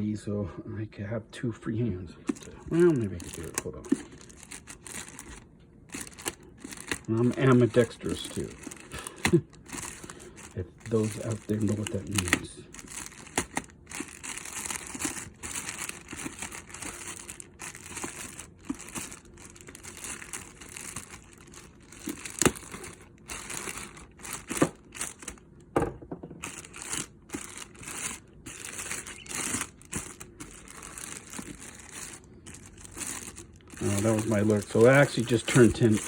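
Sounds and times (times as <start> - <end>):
plastic packaging crinkling: 2.2 - 25.5, 26.4 - 36.0.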